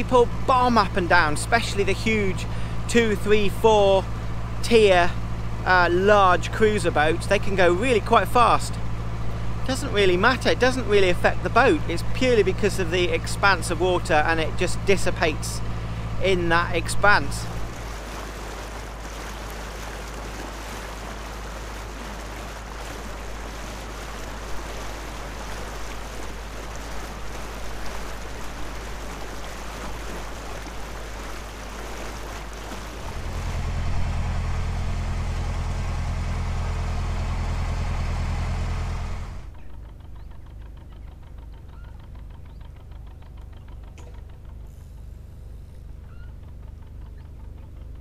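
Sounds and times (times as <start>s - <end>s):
boat engine throbbing: 0.0s - 48.0s.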